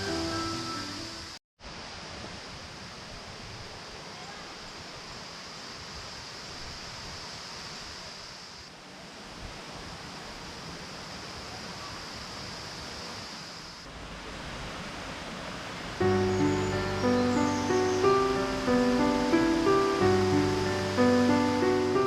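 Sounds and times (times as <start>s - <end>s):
outdoor ambient hiss: 0.0s - 22.0s.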